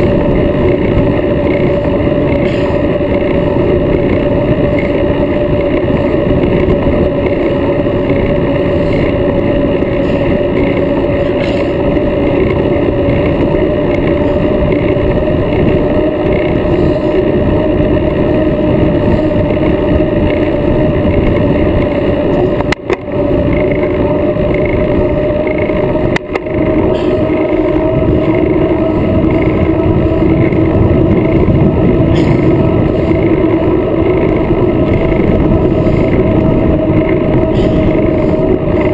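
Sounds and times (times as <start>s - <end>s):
bicycle tyres on asphalt: 0.0s - 38.9s
wind rushing: 0.0s - 38.9s.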